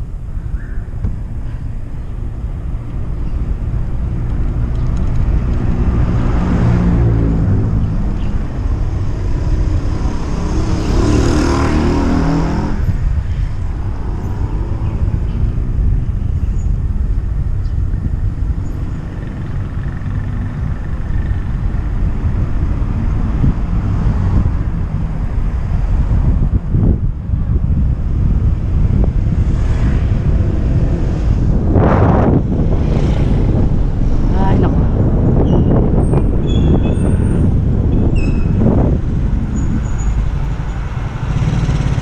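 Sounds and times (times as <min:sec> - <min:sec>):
traffic low rumble: 0:00.0 - 0:42.0
vehicle passing close: 0:02.2 - 0:42.0.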